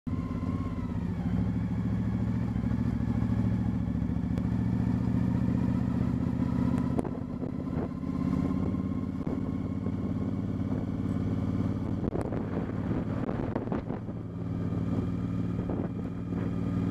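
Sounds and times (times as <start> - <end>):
motorcycle engine running: 0.1 - 16.9.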